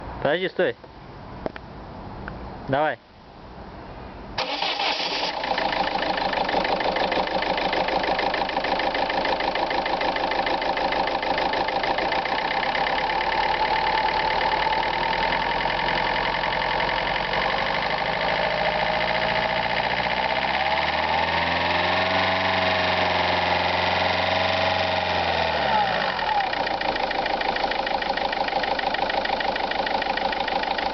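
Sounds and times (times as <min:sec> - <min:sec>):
diesel engine idling: 0:04.4 - 0:30.9
engine cranking: 0:04.4 - 0:30.9.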